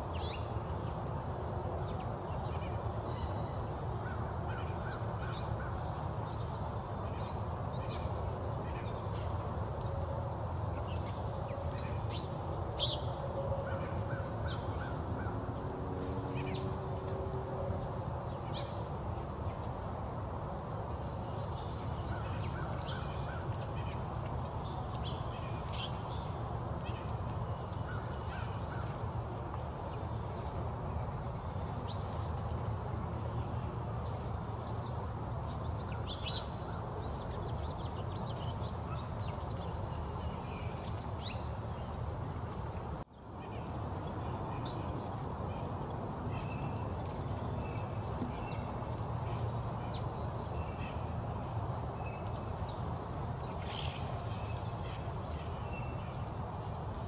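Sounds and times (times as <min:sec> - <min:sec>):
small birds chipping: 0:00.0 - 0:57.0.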